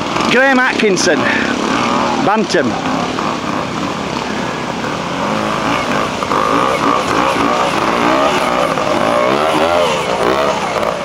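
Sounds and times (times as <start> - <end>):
flowing water rushing: 0.0 - 11.0
two-stroke motorcycle engine revving: 0.0 - 11.0.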